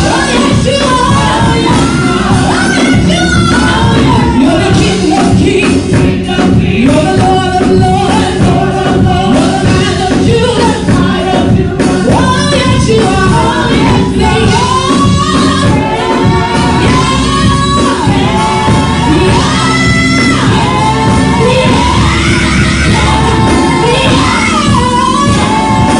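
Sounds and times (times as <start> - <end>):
choir singing with band: 0.0 - 25.9
steady percussion: 0.0 - 25.9.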